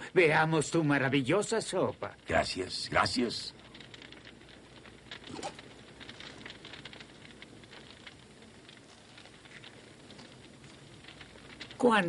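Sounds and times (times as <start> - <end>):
fire crackling: 0.0 - 12.0
small pops and snaps: 0.0 - 12.0.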